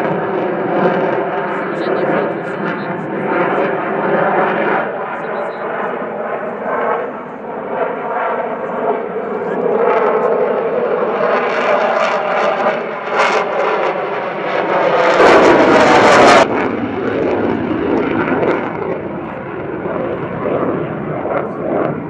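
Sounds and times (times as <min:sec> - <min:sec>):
fighter jet engine roar: 0:00.0 - 0:22.0
low rough jet rumble: 0:00.0 - 0:22.0.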